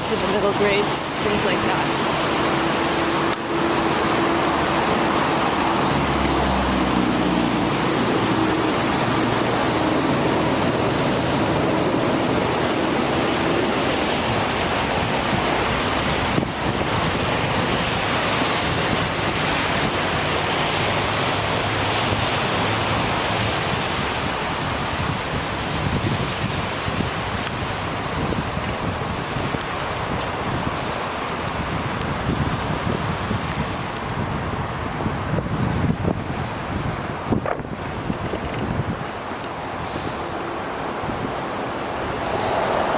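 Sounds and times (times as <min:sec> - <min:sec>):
tyres hissing on wet road: 0:00.0 - 0:42.9
wind on microphone: 0:00.0 - 0:42.9.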